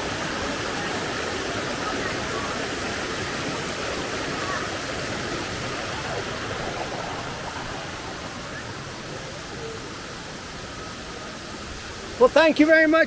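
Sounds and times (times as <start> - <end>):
waterfall rushing: 0.0 - 12.6.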